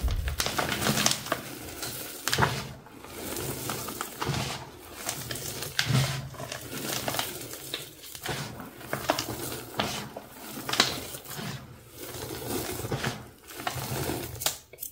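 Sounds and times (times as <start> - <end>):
powder sifting into plastic tub: 0.0 - 14.5
chalk crunching and crackling: 0.0 - 14.9.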